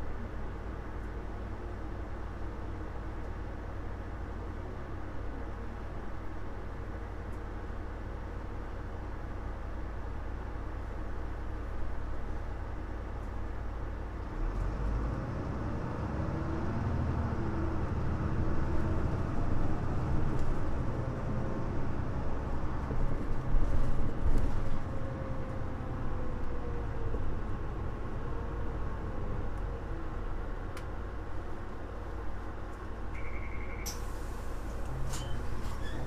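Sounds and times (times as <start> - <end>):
bus diesel engine: 0.0 - 36.0
low rumble of road noise: 0.0 - 36.0.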